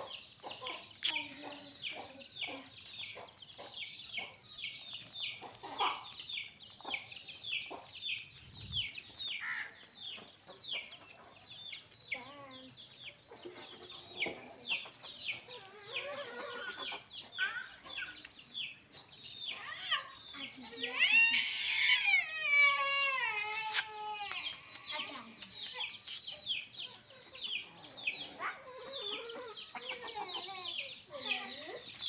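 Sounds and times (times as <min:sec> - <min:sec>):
baby chicks peeping: 0:00.0 - 0:32.0.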